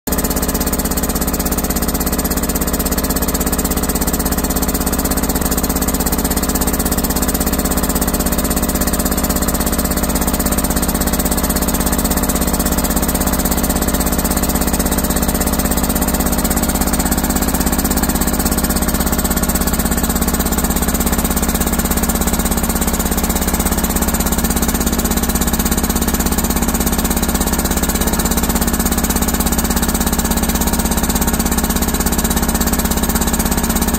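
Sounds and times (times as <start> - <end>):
air compressor running: 0.1 - 33.9.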